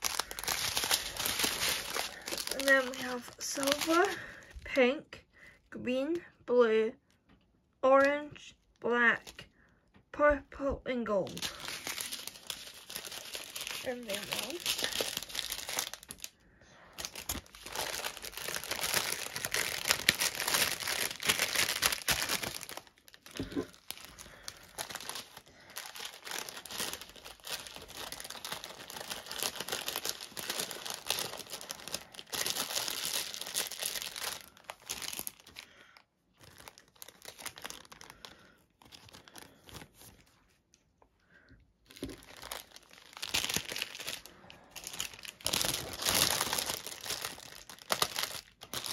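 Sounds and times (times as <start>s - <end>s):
plastic bags crinkling: 0.0s - 4.6s, 11.2s - 40.4s, 41.8s - 48.9s.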